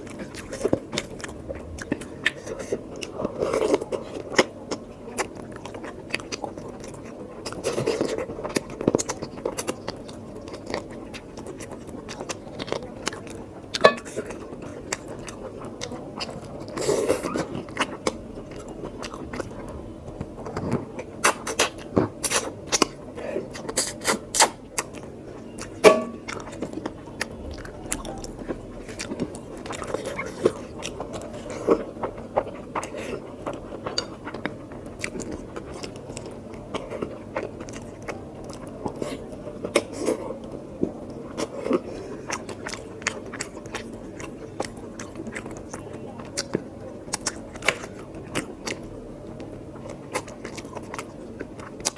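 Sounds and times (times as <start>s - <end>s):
person chewing food: 0.0s - 51.9s.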